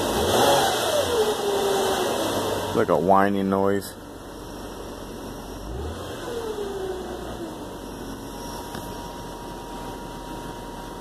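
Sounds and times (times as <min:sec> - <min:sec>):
car engine rumble: 0:00.0 - 0:11.0
high-pitched engine whine: 0:00.0 - 0:11.0.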